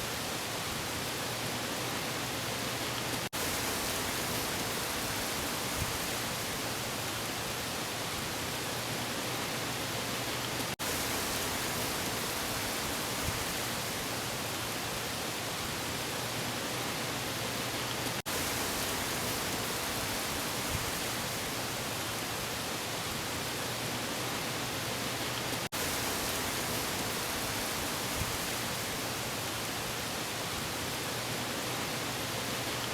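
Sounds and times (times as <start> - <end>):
waves: 0.0 - 32.9
wind: 0.0 - 32.9.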